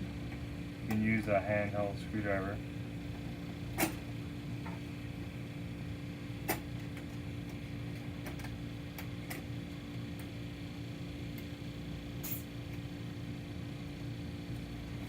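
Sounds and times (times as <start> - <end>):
steady tonal hum: 0.0 - 15.0.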